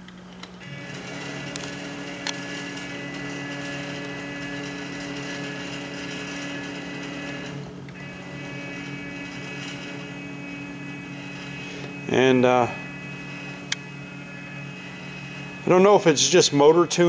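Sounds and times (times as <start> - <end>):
gantry motors whining: 0.0 - 17.0.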